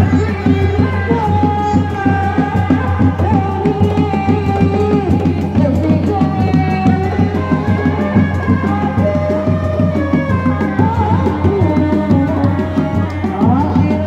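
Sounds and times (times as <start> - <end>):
frame drums beating fast rhythm: 0.0 - 14.0
high held melody: 0.0 - 14.0.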